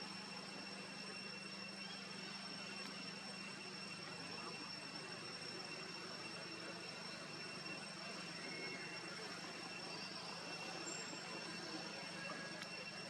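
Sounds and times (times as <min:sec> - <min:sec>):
faint high-pitched tones: 0:00.0 - 0:13.0.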